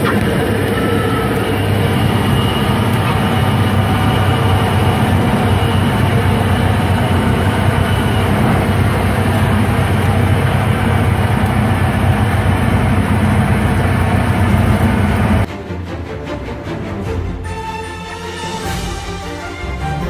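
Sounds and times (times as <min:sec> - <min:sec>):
airplane engine and propeller: 0:00.0 - 0:17.6.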